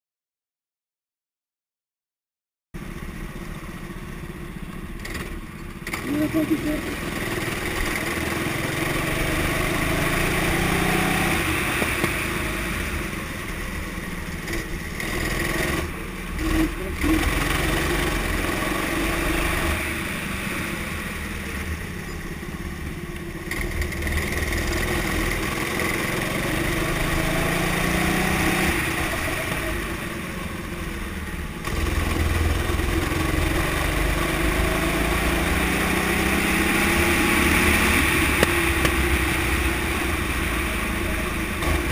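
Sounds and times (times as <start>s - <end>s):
go-kart engine revving: 2.8s - 41.9s.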